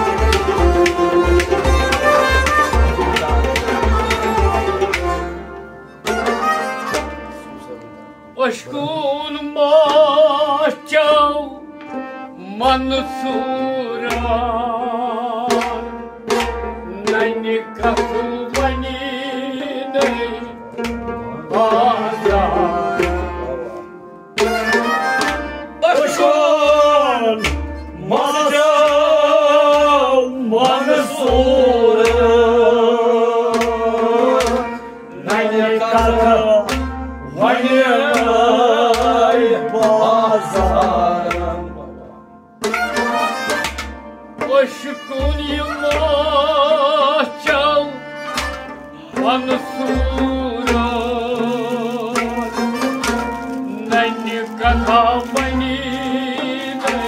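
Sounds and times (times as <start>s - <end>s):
plucked rabab: 0.0s - 57.0s.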